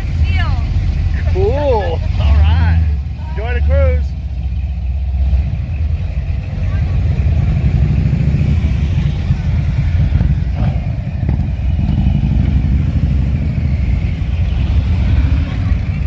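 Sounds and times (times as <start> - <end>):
car engine rumbling through exhaust: 0.0 - 16.0.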